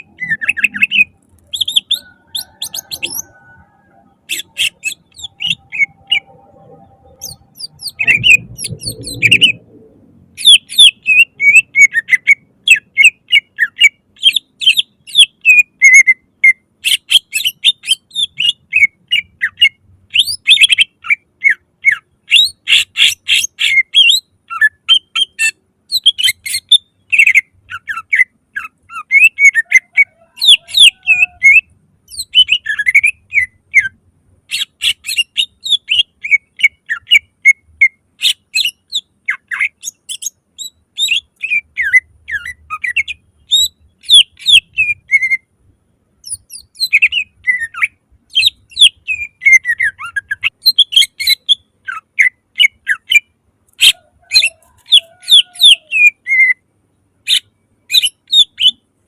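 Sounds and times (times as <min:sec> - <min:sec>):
songbird chirping and whistling: 0:00.0 - 0:45.5, 0:46.2 - 0:58.8.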